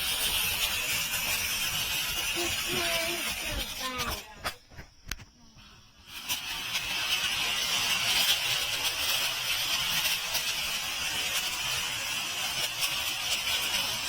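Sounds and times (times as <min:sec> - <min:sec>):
faint crackles: 0:00.0 - 0:13.9
firework fountain hissing: 0:00.0 - 0:14.0.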